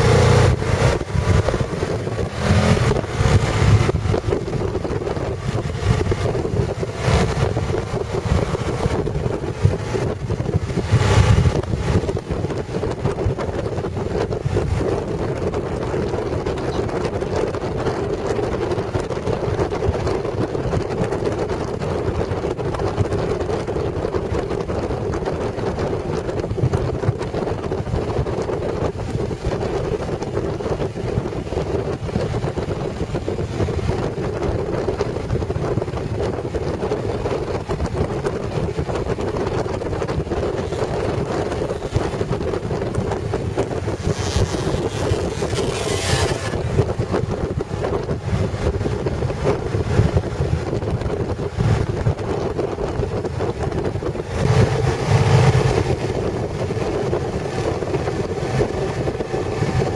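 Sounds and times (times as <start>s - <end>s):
motorcycle engine hum: 0.0s - 59.9s
wind rushing over microphone: 0.0s - 59.9s.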